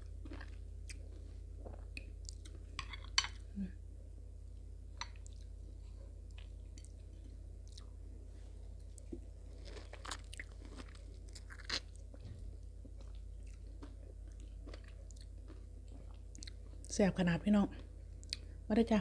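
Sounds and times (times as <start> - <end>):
person chewing fruit: 0.0 - 3.6, 5.0 - 8.0, 8.7 - 16.9, 17.8 - 18.6
steady low hum: 0.0 - 19.0.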